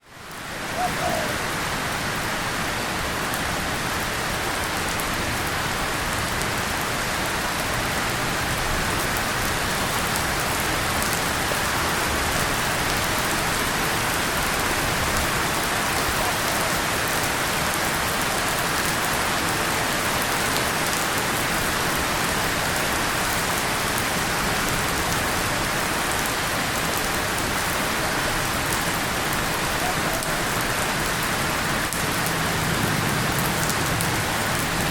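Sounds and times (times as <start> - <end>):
rain on tin and leaves: 0.0 - 34.9.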